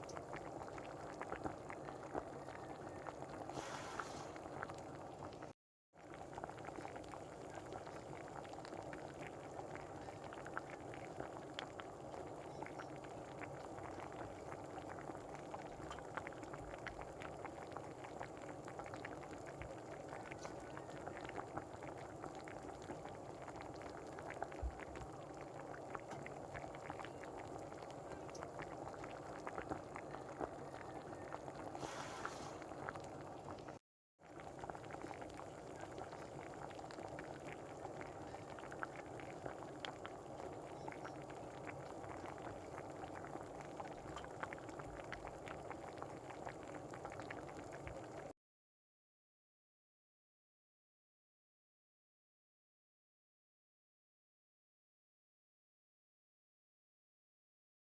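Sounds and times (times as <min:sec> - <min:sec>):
sauce bubbling in a pot: 0:00.0 - 0:48.4.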